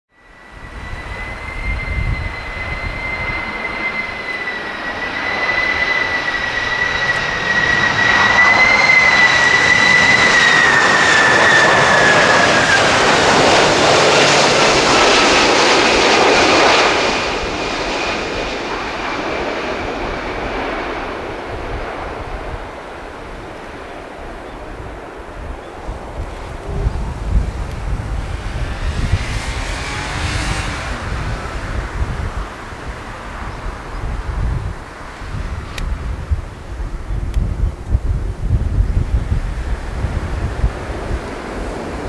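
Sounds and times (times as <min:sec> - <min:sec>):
jet engines whining: 0:00.1 - 0:42.0
rushing jet noise: 0:00.1 - 0:42.0.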